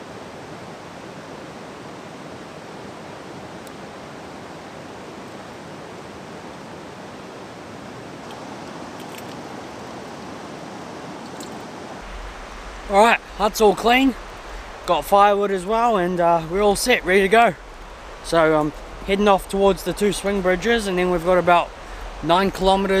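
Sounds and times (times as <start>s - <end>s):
river water rushing over stones: 0.0s - 23.0s.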